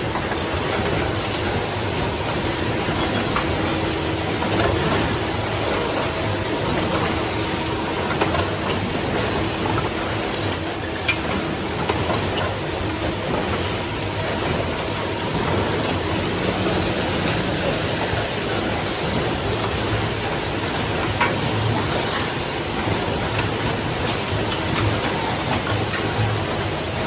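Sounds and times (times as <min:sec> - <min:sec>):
wire bending machine running: 0:00.0 - 0:27.0.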